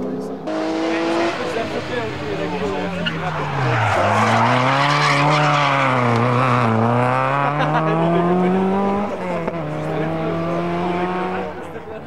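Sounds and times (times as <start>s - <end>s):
rally car engine under load: 0.4s - 12.0s.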